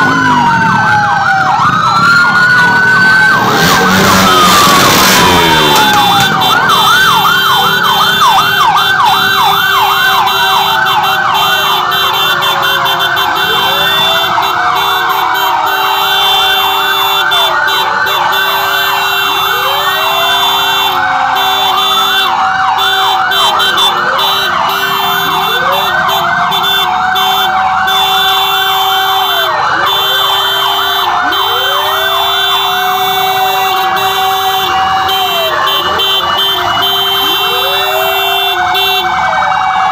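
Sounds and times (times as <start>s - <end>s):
wailing sirens: 0.0s - 39.9s
yelping sirens: 0.0s - 39.9s.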